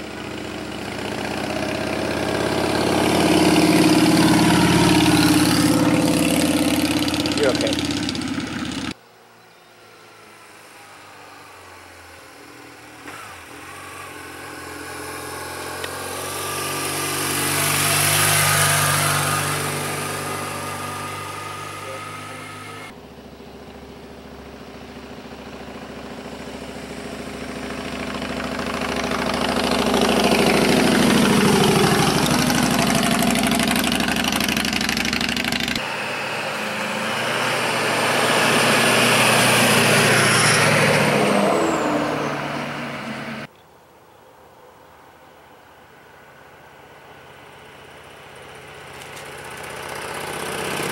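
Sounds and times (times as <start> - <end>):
motorcycle passing by: 0.0 - 43.5, 47.3 - 50.9
v-twin motorcycle passing: 0.0 - 43.5, 46.0 - 50.9
vehicle passing by: 0.0 - 43.5, 47.4 - 50.9.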